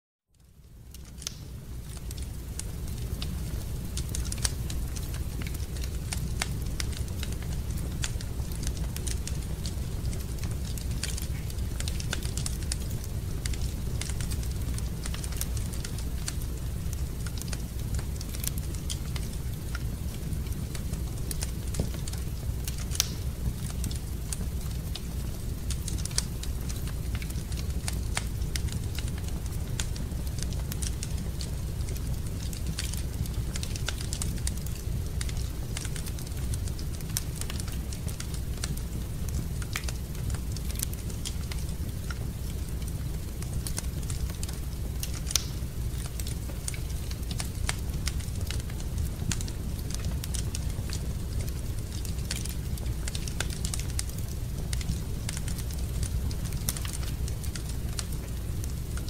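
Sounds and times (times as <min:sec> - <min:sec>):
fire crackling in fireplace: 0:00.3 - 0:59.0.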